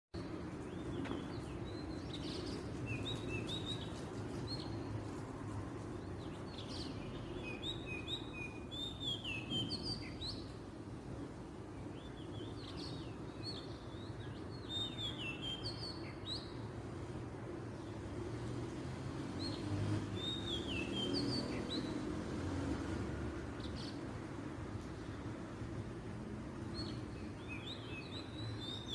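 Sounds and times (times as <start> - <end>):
low background noise: 0.2 - 28.9.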